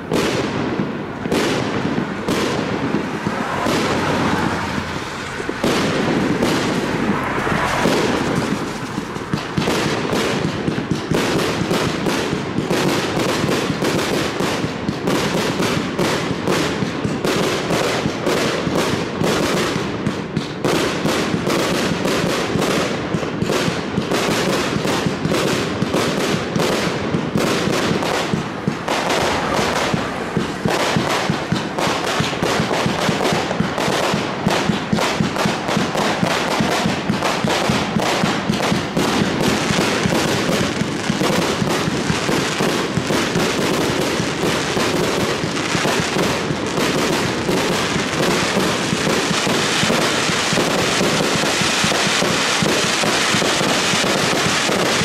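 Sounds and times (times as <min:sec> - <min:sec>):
fireworks launching and bursting: 0:00.0 - 0:55.0.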